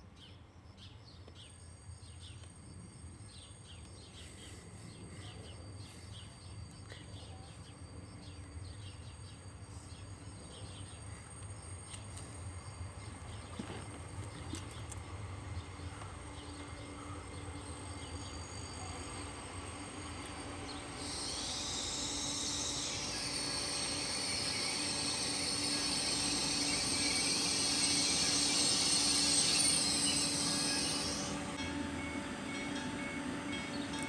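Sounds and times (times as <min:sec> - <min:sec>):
train running: 0:00.4 - 0:34.0
high-pitched rail whine: 0:01.6 - 0:34.0.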